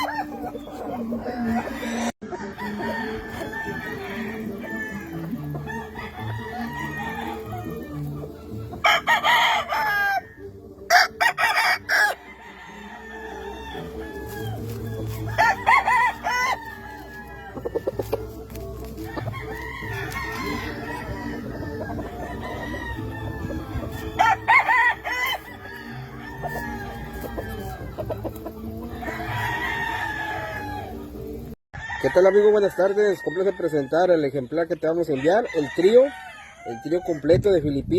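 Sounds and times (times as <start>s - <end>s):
background music: 0.0s - 37.2s
roosters crowing: 0.0s - 37.4s.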